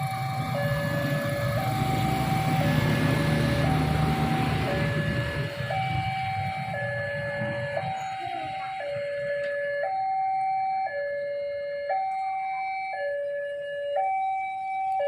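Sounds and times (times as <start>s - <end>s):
level crossing alarm two tones: 0.2s - 15.0s.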